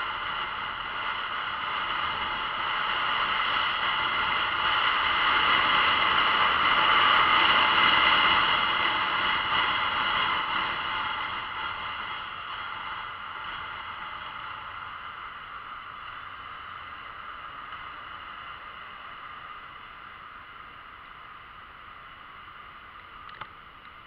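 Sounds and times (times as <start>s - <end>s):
road noise: 0.0s - 24.0s
wind rush on motorcycle: 0.0s - 24.0s.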